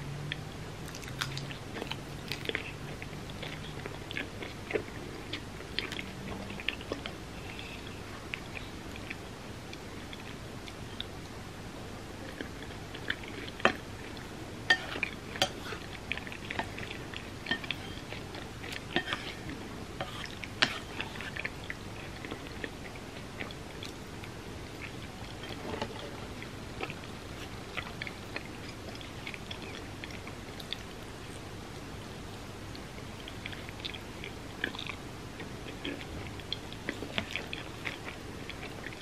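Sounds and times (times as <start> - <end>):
person chewing food: 0.1 - 11.2, 12.2 - 31.5, 32.3 - 39.0.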